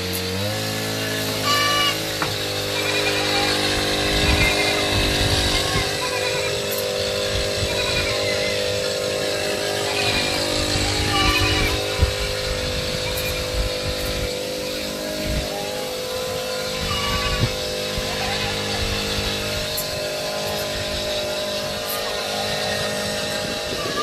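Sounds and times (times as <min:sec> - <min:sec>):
goat kids bleating: 0:00.0 - 0:24.0
small petrol engine running: 0:00.0 - 0:24.0.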